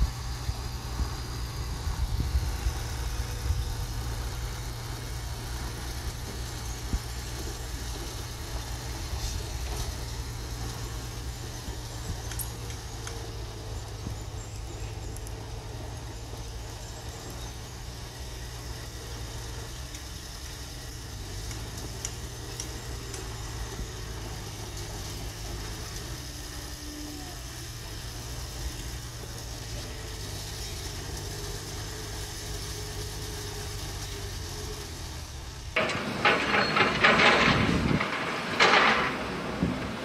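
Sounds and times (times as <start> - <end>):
bulldozer diesel engine rumbling: 0.0 - 40.0.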